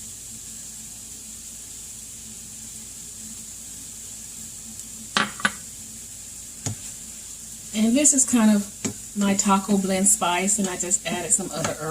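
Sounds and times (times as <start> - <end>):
food sizzling in a frying pan: 0.0 - 11.9.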